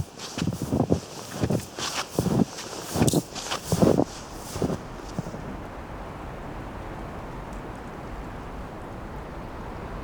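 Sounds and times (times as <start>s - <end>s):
blizzard wind rushing: 0.0s - 10.0s
wind buffeting microphone: 0.0s - 10.0s.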